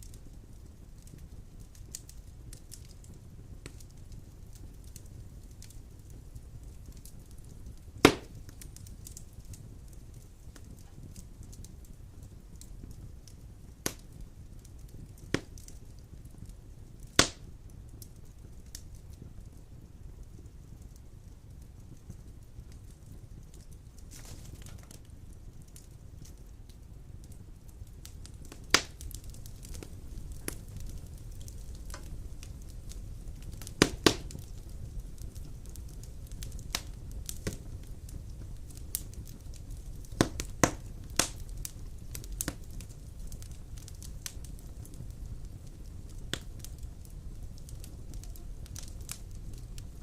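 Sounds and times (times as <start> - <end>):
sharp pops of fire: 0.0 - 50.0
wood fire crackling: 0.0 - 50.0.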